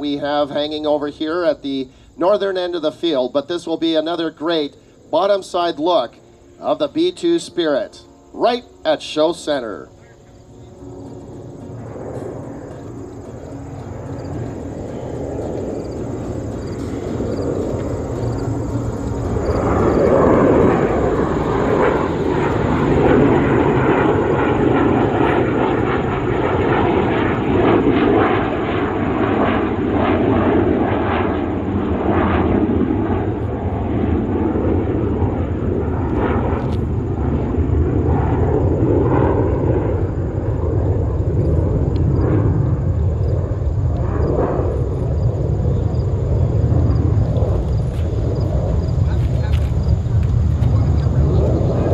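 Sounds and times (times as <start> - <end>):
jet bomber passing overhead: 0.0 - 51.9.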